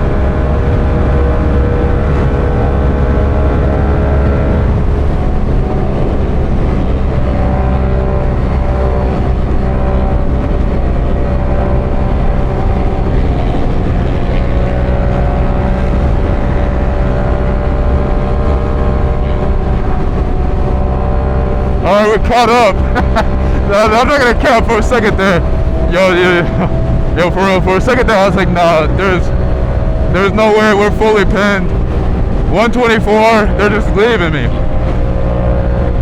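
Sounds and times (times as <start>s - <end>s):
wind rush on microphone: 0.0s - 27.3s, 28.0s - 36.0s.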